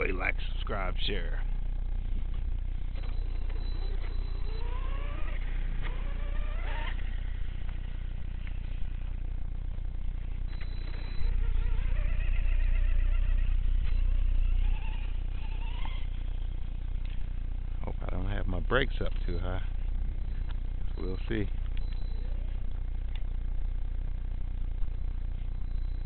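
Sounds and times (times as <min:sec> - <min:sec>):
low rumble on microphone: 0:00.0 - 0:26.0
electric motor whining: 0:01.6 - 0:26.0.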